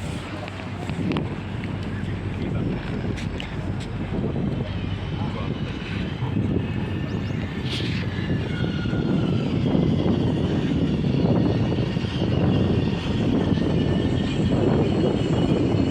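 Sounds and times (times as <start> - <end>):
train rumbling by: 0.0 - 15.9.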